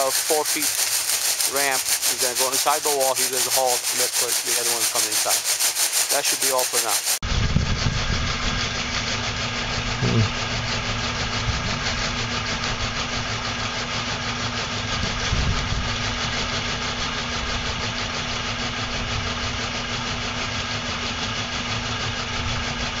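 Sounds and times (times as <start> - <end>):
auger motor humming and rattling: 0.0 - 23.0.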